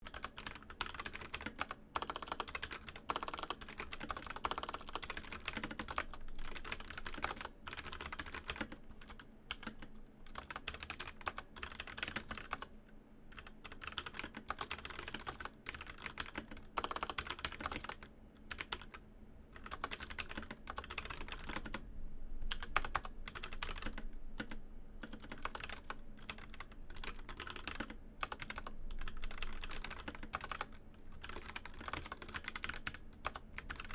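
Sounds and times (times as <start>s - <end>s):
fast typing on mechanical keyboard: 0.0s - 12.7s, 13.3s - 19.0s, 19.6s - 21.8s, 22.5s - 33.9s.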